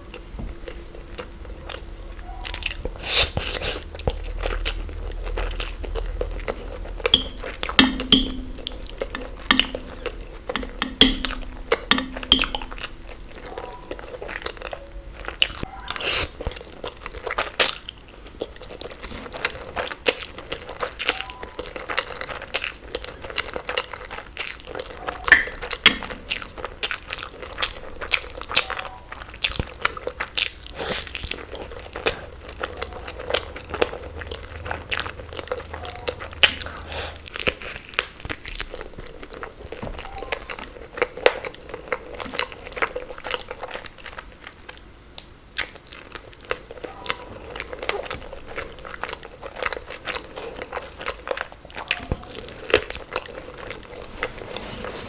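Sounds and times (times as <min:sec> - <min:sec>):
chewing crunchy food: 0:00.0 - 0:54.7.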